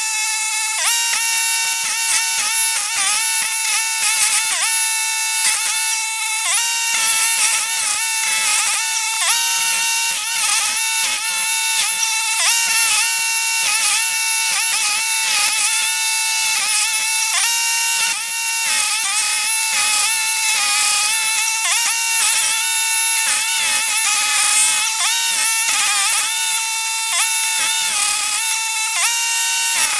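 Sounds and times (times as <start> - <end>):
stump grinder cutting wood: 0.0 - 29.9.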